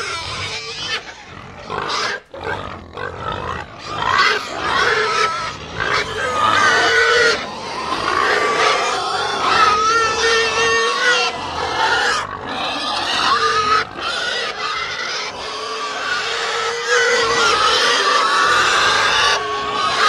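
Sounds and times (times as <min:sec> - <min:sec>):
pigs squealing: 0:00.0 - 0:20.0.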